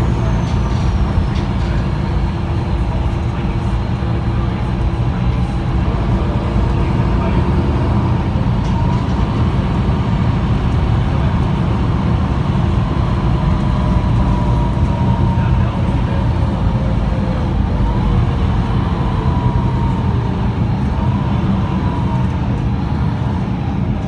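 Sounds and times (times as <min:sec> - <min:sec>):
bus engine droning: 0:00.0 - 0:24.0.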